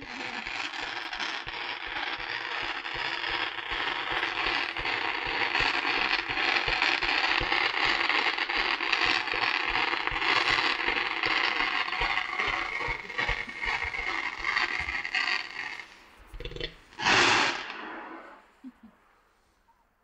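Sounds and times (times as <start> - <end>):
firework fountain hissing and crackling: 0.0 - 19.7.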